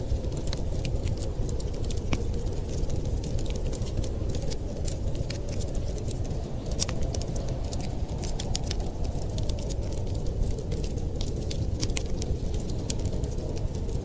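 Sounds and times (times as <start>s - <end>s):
fireplace fire crackling: 0.0s - 14.0s
low rumbling noise: 0.0s - 14.0s.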